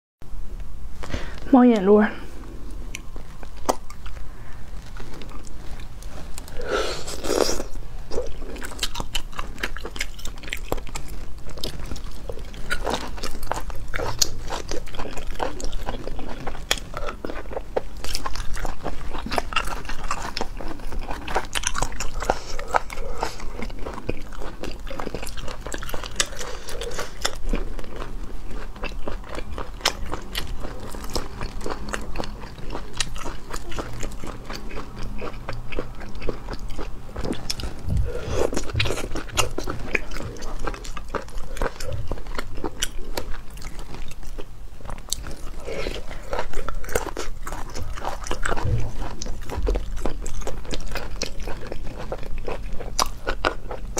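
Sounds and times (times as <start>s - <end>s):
close chewing and biting: 2.5s - 53.9s.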